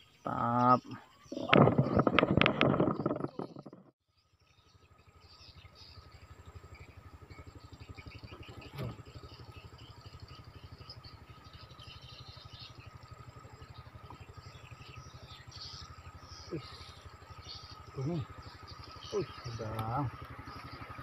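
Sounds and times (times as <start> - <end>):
small engine running: 1.2 - 21.0.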